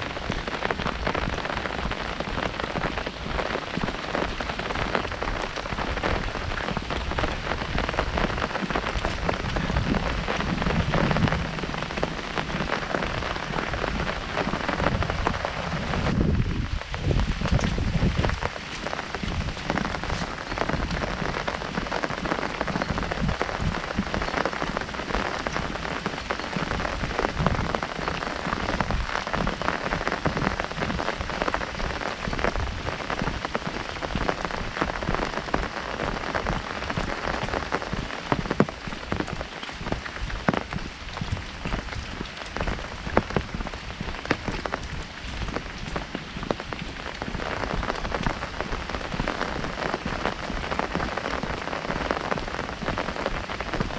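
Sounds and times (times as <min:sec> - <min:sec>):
heavy rain on umbrella: 0:00.0 - 0:53.9.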